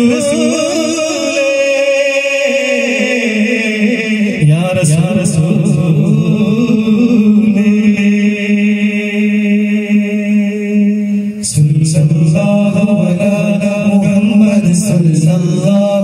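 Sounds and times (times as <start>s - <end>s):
boys chanting devotional song: 0.0s - 16.0s.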